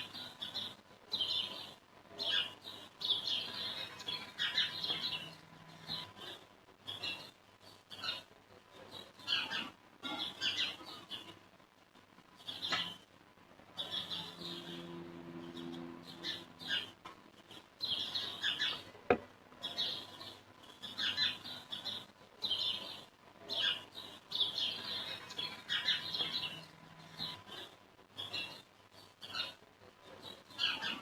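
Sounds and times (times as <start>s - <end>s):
small birds chirping: 0.0s - 11.6s, 12.2s - 31.0s.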